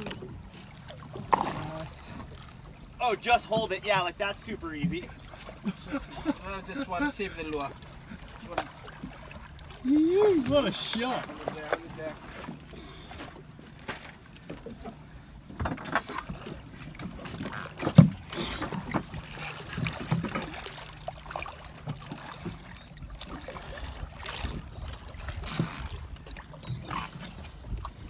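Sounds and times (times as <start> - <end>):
water splashing against boat: 0.0 - 28.0.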